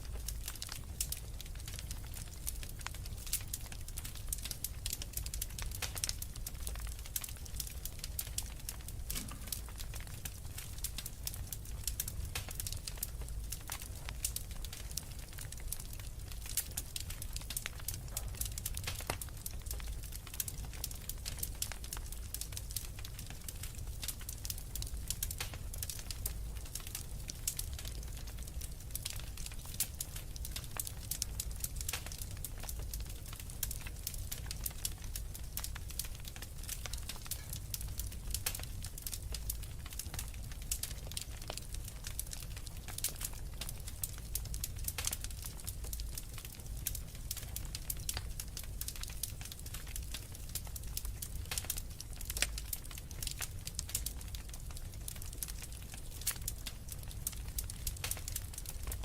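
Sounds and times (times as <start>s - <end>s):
fire pops and snaps: 0.0s - 59.0s
low rumble of flames: 0.0s - 59.0s
wood fire crackling: 0.0s - 59.0s.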